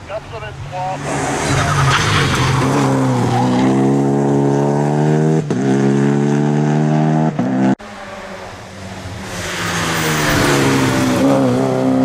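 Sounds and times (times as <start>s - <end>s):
car engine at high revs: 0.9s - 12.0s.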